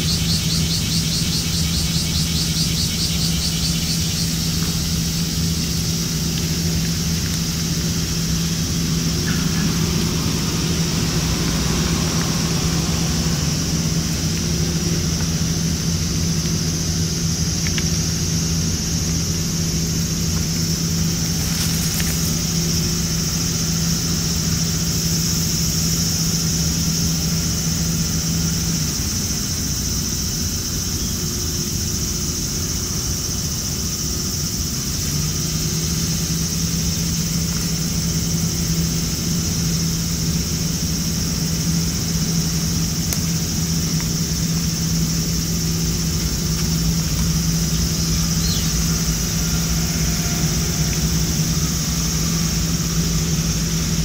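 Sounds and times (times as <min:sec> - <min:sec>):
high-pitched hiss: 0:00.0 - 0:54.0
low mechanical hum: 0:00.0 - 0:54.0.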